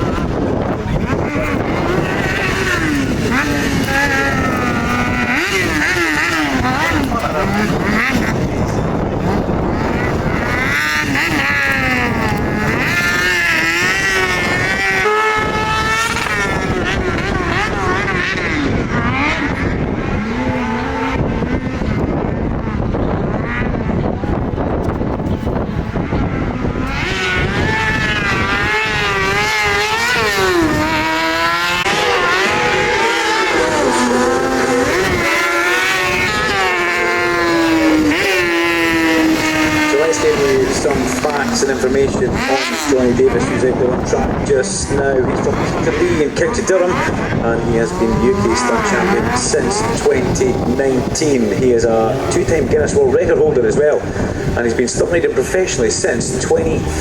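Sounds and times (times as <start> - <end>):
gusty rumble: 0.0 - 57.0
motorcycle engine revving: 0.0 - 57.0.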